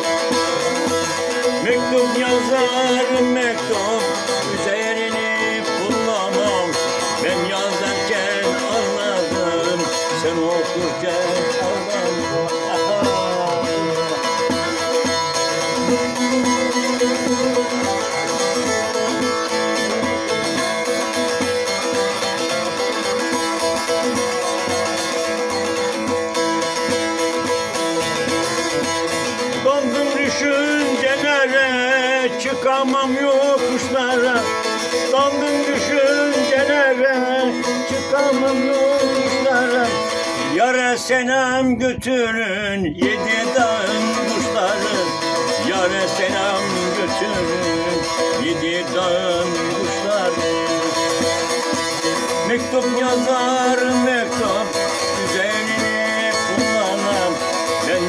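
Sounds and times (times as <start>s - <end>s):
man singing: 0.0s - 58.0s
plucked long-necked lute melody: 0.0s - 58.0s.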